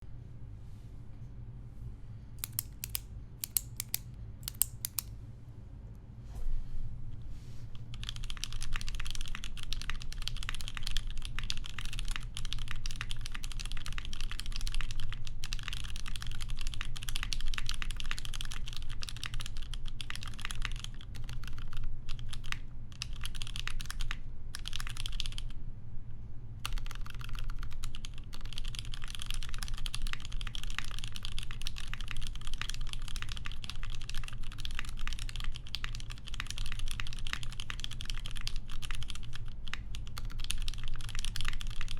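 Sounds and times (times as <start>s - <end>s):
steady low hum: 0.0s - 41.9s
mechanical keyboard typing: 2.4s - 5.1s, 7.9s - 25.5s, 26.6s - 41.9s.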